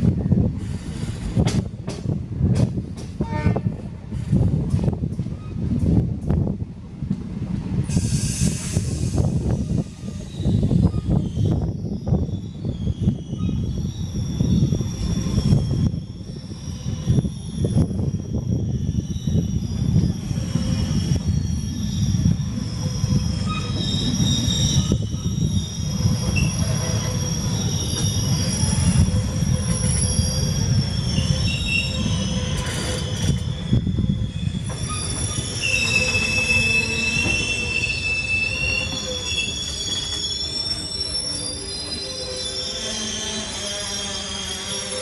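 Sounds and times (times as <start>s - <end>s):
train rumbling: 0.0s - 45.0s
wheels and brakes squealing: 7.9s - 45.0s.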